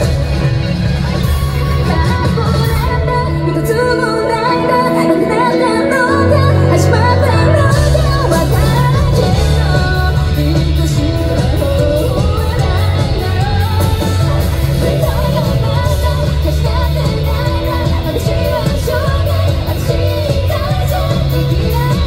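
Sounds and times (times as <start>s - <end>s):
live rock band: 0.0s - 22.0s
woman singing: 0.0s - 22.0s.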